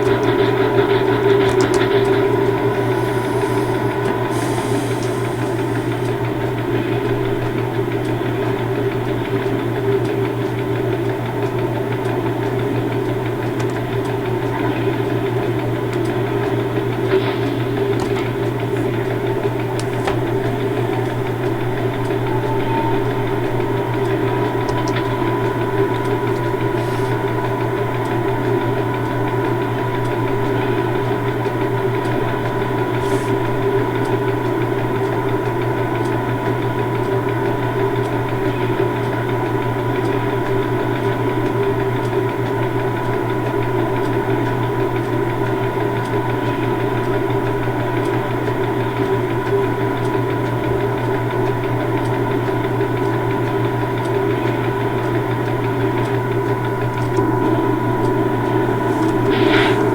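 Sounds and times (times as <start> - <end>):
locomotive engine drone: 0.0 - 48.8, 50.7 - 59.9.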